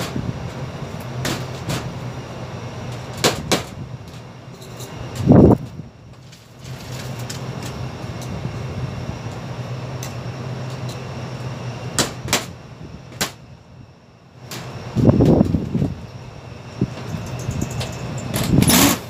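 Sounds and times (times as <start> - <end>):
loud rough rumble: 0.0 - 19.0
steady low hum: 0.0 - 19.0.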